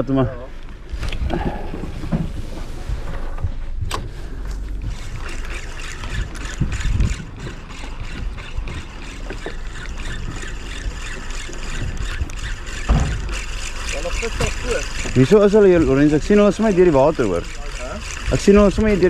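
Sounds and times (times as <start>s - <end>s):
water splashing alongside boat: 1.5s - 19.0s.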